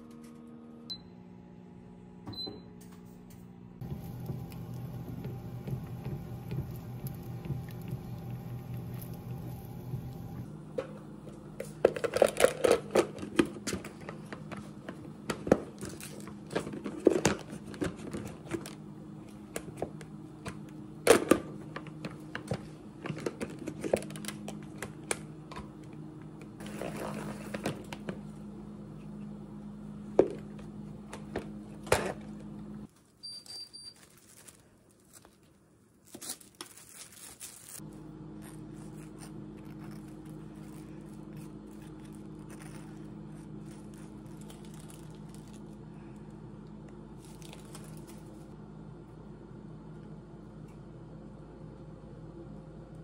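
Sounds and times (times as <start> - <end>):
steady low hum: 0.0 - 32.9, 37.8 - 53.0.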